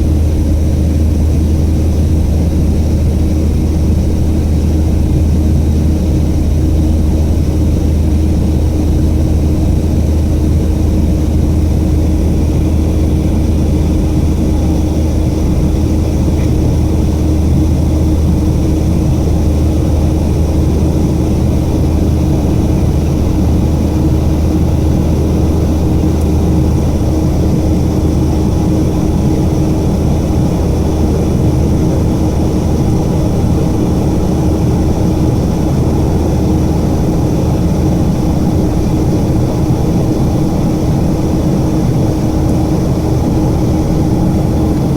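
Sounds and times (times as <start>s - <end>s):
jet engine cabin drone: 0.0s - 44.9s.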